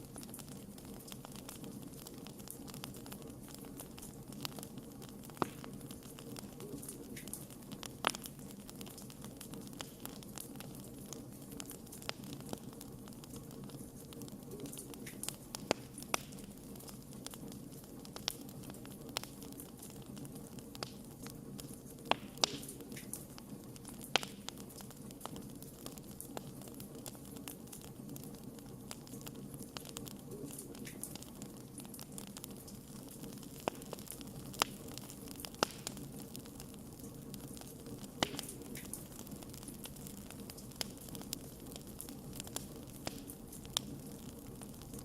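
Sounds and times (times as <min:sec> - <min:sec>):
fire crackling and popping: 0:00.0 - 0:45.0
low rush of flame: 0:00.0 - 0:45.0.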